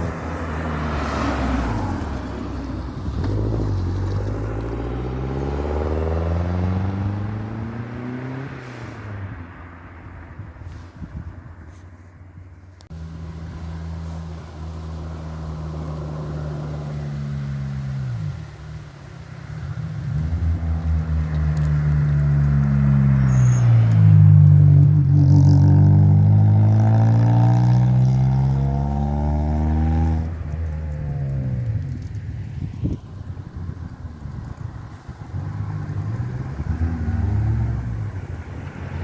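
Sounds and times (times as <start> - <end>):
car engines accelerating past: 0.0 - 10.2, 13.0 - 39.0.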